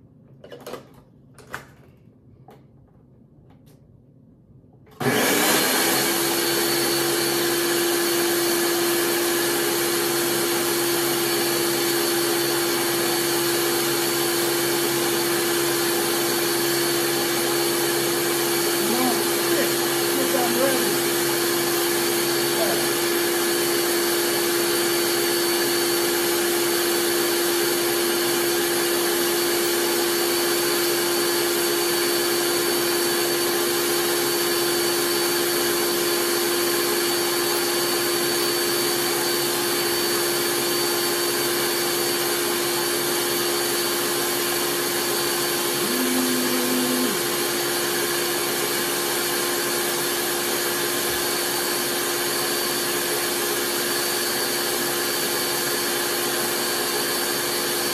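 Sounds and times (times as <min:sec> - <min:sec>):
electric blender running: 0:04.9 - 0:57.9.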